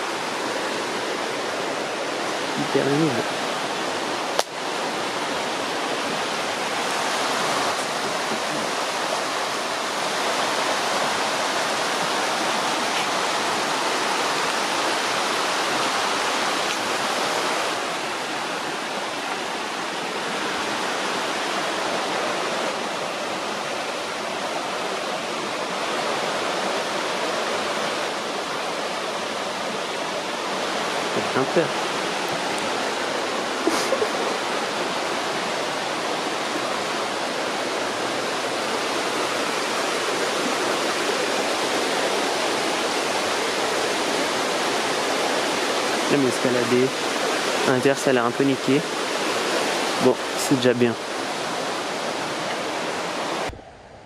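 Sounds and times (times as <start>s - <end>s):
flowing river water: 0.0s - 54.0s.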